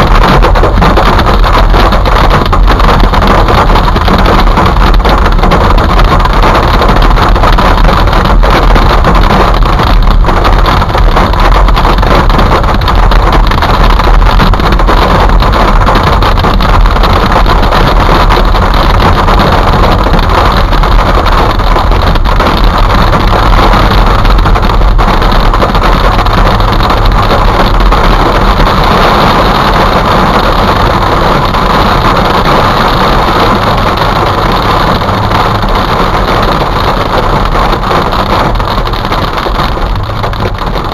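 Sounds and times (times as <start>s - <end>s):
hail and rain on car roof: 0.0s - 40.9s.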